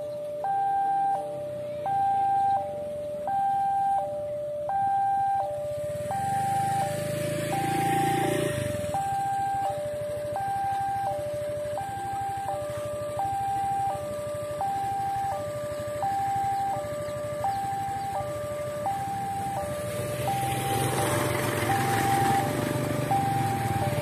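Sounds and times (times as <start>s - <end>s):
two-tone warning siren: 0.0s - 24.0s.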